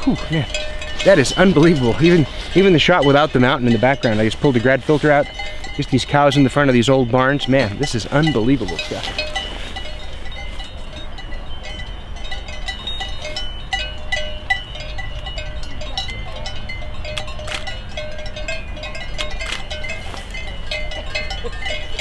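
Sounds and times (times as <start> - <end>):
cowbells clanking: 0.0 - 22.0.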